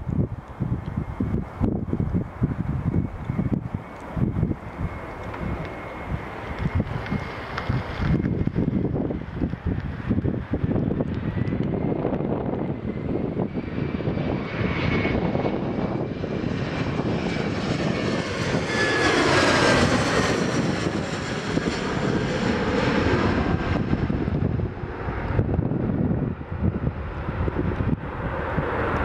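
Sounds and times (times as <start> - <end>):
jet airliner passing overhead: 0.0 - 29.0.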